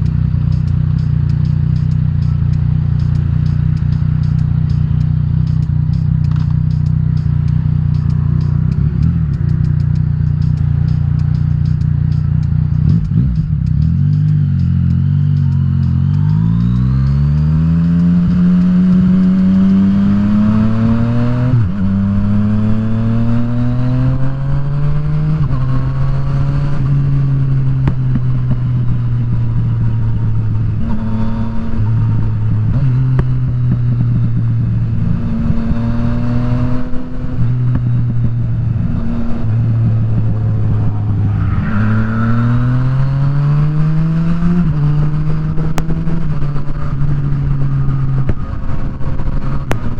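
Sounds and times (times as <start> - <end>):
motorcycle engine accelerating: 0.0 - 49.9
wind and road noise: 0.0 - 49.9.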